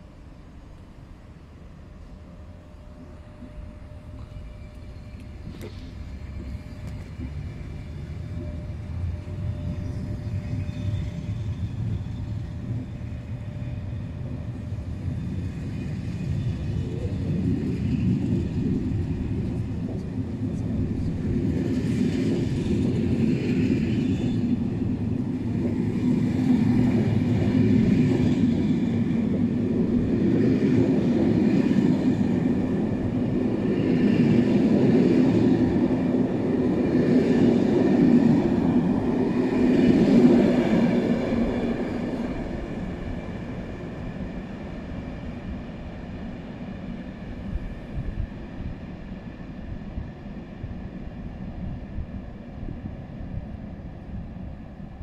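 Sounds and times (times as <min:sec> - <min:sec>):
train wheels rumbling on rails: 0:01.8 - 0:55.0.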